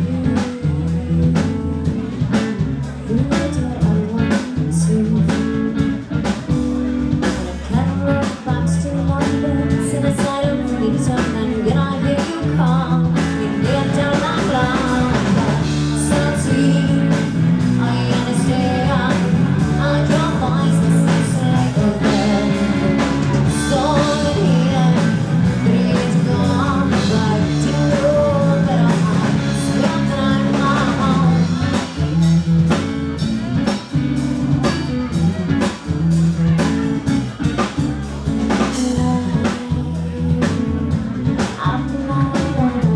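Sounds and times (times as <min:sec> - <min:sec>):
woman singing: 0:00.0 - 0:06.3, 0:07.1 - 0:32.7, 0:37.4 - 0:42.9
bass guitar: 0:00.0 - 0:42.9
drum kit: 0:00.0 - 0:42.9
electric guitar: 0:00.0 - 0:42.9.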